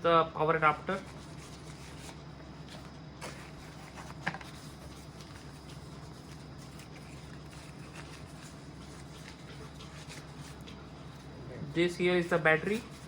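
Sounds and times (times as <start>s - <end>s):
steady low hum: 0.0s - 13.0s
light packaging rustles: 0.9s - 11.4s.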